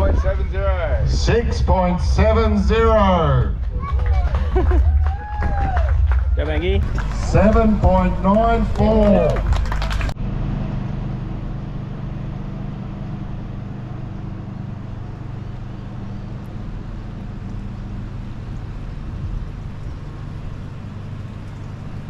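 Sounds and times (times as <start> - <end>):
engine running low hum: 0.0 - 22.0.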